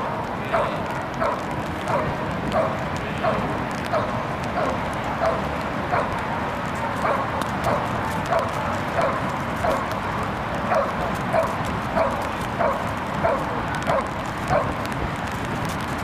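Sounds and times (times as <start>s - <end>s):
young dog barking: 0.0s - 6.2s, 6.9s - 10.0s, 10.6s - 14.9s.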